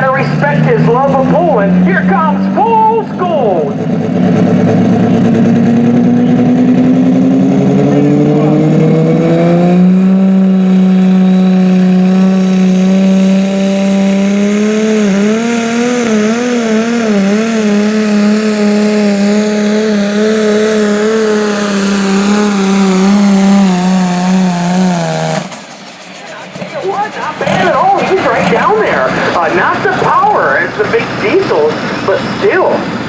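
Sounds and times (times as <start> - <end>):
tractor engine running flat out: 0.0 - 33.0.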